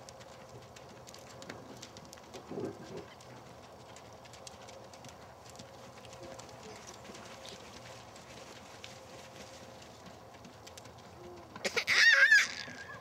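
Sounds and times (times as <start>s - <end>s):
horse hoofbeats on dirt: 0.0s - 13.0s.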